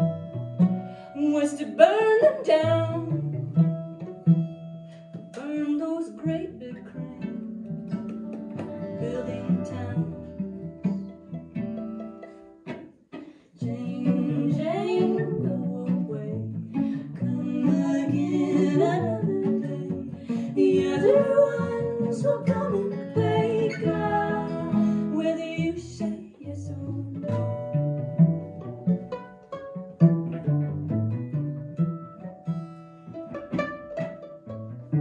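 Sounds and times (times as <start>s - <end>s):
acoustic string band music: 0.0s - 35.0s.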